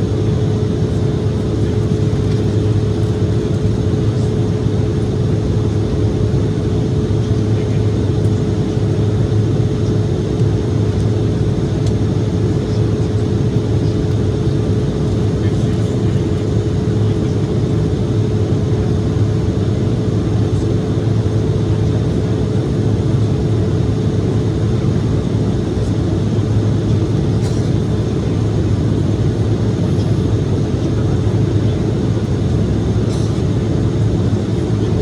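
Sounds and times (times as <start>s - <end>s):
constant cabin hum: 0.0s - 35.0s
jet engines droning: 0.0s - 35.0s.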